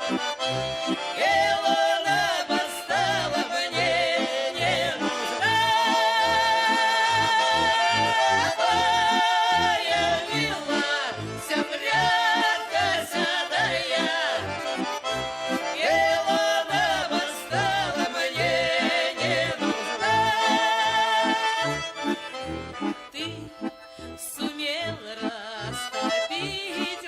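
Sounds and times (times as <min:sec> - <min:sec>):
pulsing bass accompaniment: 0:00.0 - 0:26.7
accordion folk melody: 0:00.0 - 0:27.0.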